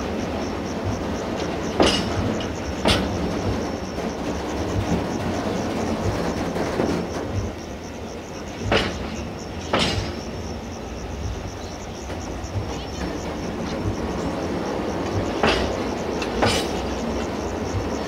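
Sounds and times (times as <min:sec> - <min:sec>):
freight train rumbling past: 0:00.0 - 0:18.0
train wheel clacks: 0:00.0 - 0:18.0.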